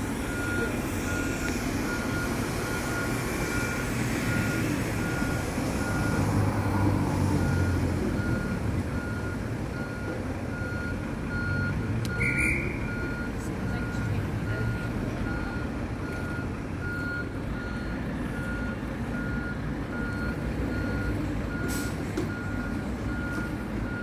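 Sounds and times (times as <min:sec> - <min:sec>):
bus engines rumbling: 0:00.0 - 0:24.0
reversing alarm beeping: 0:00.0 - 0:24.0.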